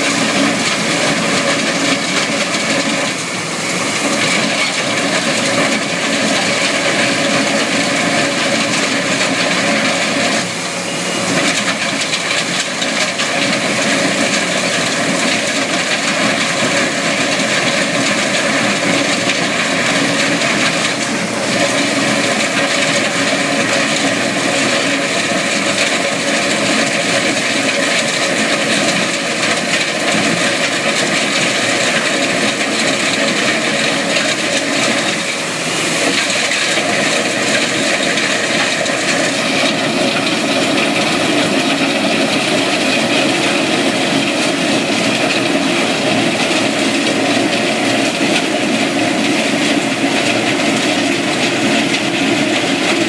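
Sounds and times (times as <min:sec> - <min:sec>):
track loader with planer working: 0:00.0 - 0:53.0.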